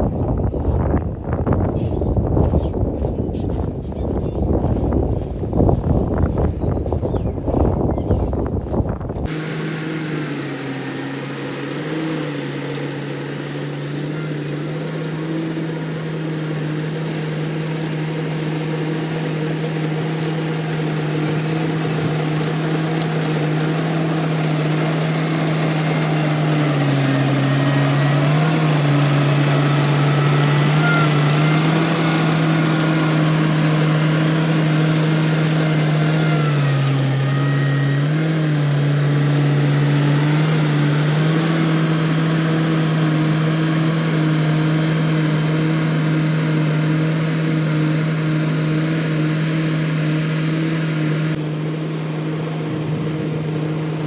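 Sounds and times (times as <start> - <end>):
harvester engine running: 0.0 - 54.0.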